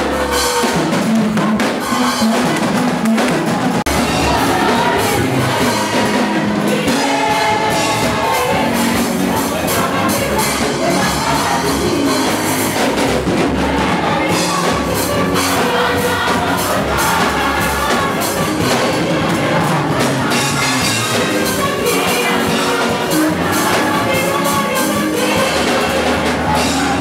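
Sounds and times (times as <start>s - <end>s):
group of voices singing: 0.0s - 27.0s
upbeat music with percussion: 0.0s - 27.0s.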